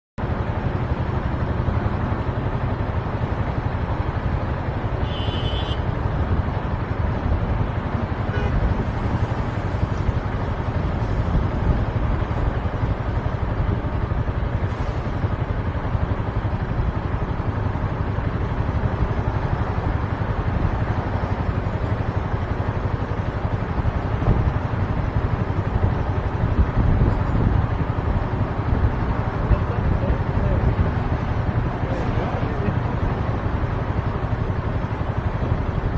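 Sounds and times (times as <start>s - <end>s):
motorcycle engine and road noise: 0.2s - 35.9s.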